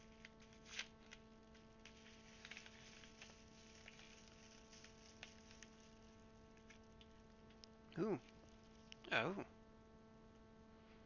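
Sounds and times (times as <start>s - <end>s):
faint clicks and rustles: 0.0s - 9.1s
steady electrical hum: 0.0s - 11.0s.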